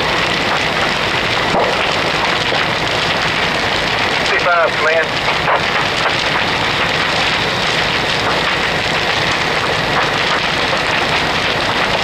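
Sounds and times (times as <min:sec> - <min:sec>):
fire crackling and hissing: 0:00.0 - 0:12.0.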